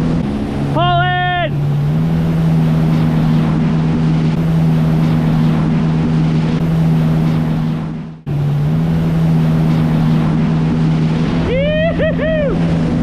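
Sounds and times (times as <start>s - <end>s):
jet ski engine droning: 0.0s - 13.0s
water rushing and spray: 0.0s - 13.0s.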